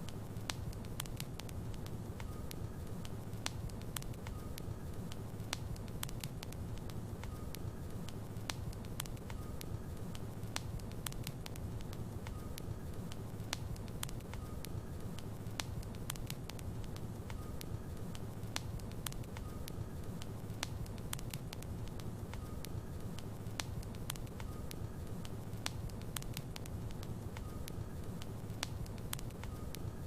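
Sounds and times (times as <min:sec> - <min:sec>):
logs burning in fireplace: 0:00.0 - 0:30.0.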